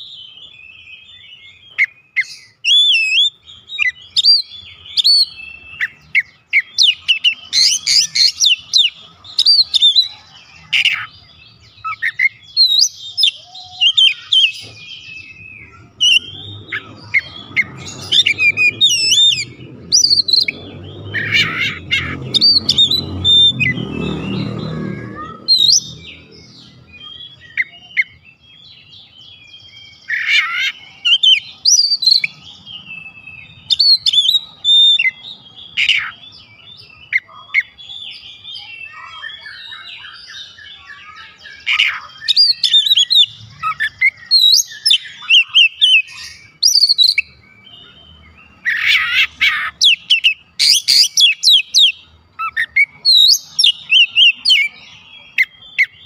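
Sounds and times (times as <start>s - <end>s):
bird singing whistles and trills: 0.0s - 56.0s.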